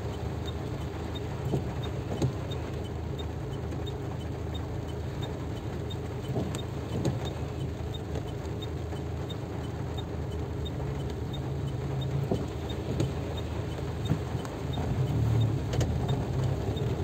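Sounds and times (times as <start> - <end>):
car engine idling: 0.0 - 17.0
faint regular ticking: 0.0 - 17.0.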